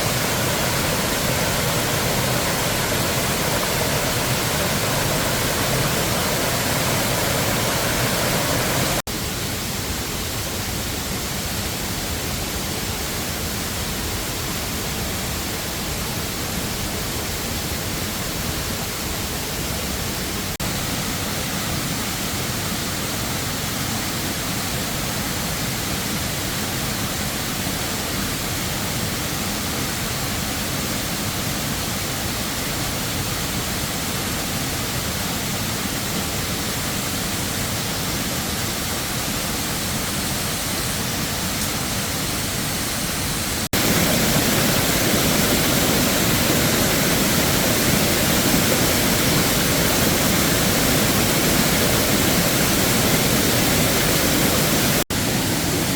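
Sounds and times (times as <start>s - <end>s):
waterfall rushing: 0.0s - 9.9s, 19.6s - 55.9s.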